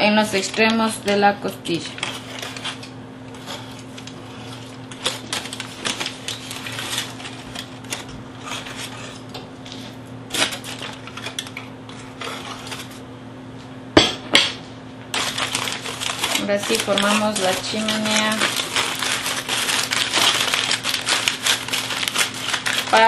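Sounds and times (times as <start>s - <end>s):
aluminium foil crinkling: 0.0s - 13.0s, 15.1s - 23.0s
steady low hum: 0.0s - 23.0s.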